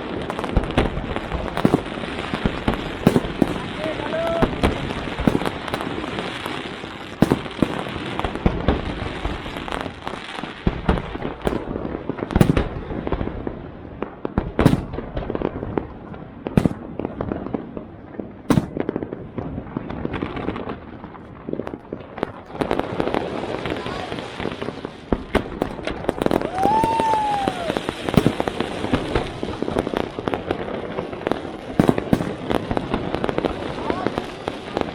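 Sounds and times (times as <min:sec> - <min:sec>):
fireworks bangs: 0:00.0 - 0:34.9
fireworks crackling and popping: 0:00.0 - 0:34.9.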